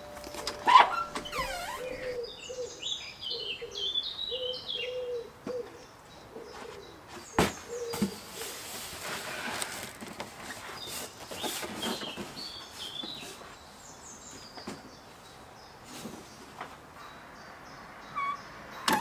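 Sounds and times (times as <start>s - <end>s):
small birds chirping: 1.2s - 8.6s, 10.5s - 19.0s.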